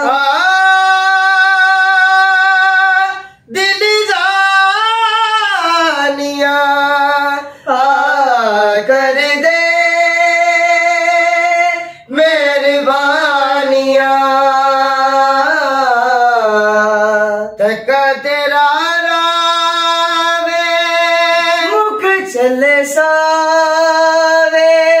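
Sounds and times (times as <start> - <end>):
two men singing unaccompanied: 0.0 - 25.0.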